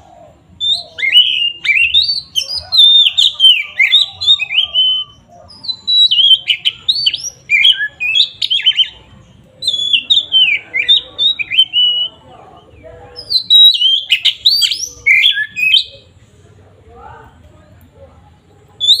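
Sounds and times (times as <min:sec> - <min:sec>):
bird singing whistled notes: 0:00.5 - 0:16.0, 0:18.8 - 0:19.0.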